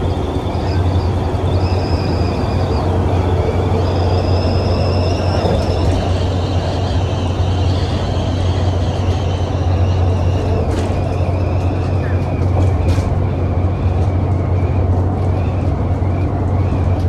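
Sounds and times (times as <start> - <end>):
bus engine drone with whine: 0.0 - 17.0.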